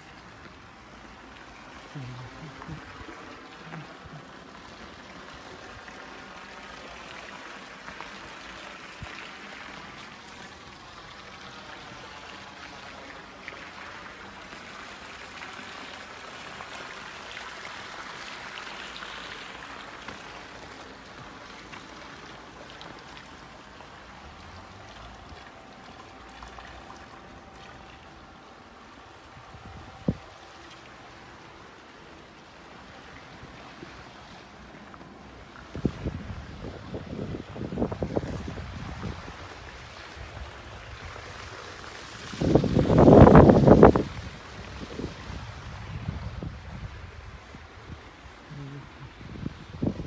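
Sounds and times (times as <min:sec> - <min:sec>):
water spilling over pool edge: 0:00.0 - 0:50.0.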